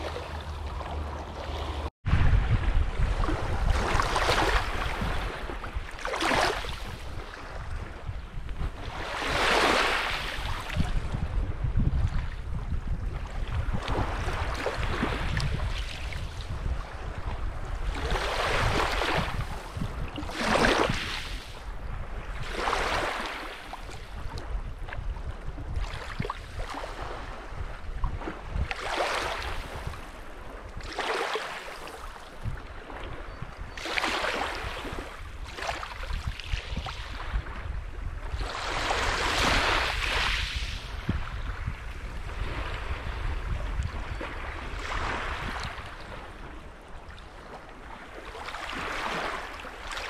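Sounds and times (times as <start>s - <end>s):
waves breaking on shore: 0.0s - 50.0s
wind rumble on microphone: 0.0s - 50.0s.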